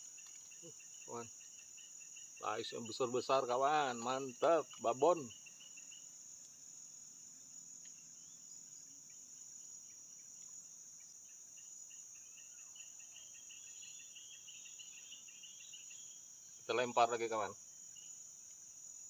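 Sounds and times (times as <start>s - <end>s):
faint rapid insect chirping: 0.0s - 19.0s
insects droning: 0.0s - 19.0s.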